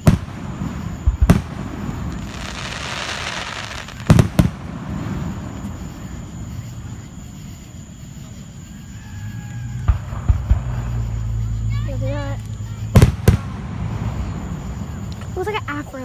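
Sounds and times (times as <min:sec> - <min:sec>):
distant fireworks bangs: 0:00.0 - 0:16.0
fireworks noisy rush: 0:00.0 - 0:16.0.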